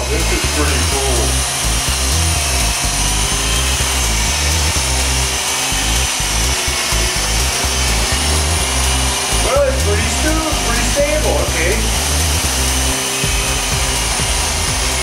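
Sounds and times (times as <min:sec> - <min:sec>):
electric motors whining: 0:00.0 - 0:15.0
rotor blades whirring: 0:00.0 - 0:15.0.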